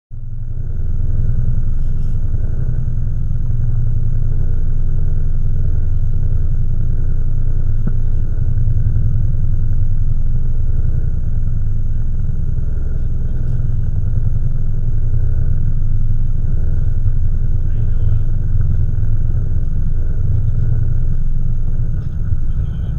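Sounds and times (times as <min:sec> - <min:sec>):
boat engine rumbling: 0:00.1 - 0:22.9.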